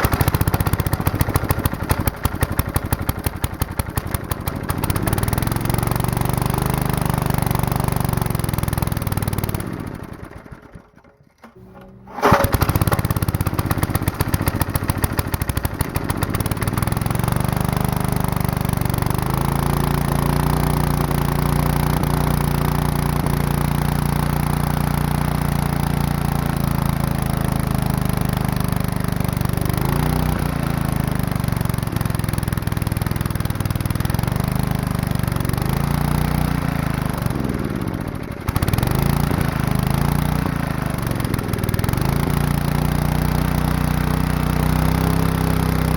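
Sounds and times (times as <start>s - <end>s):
small engine running unevenly: 0.0s - 45.9s.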